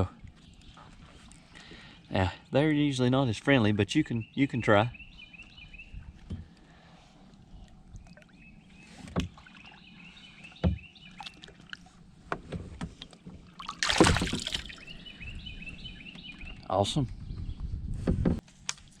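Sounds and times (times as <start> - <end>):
birds chirping: 0.0 - 12.2, 13.5 - 17.9.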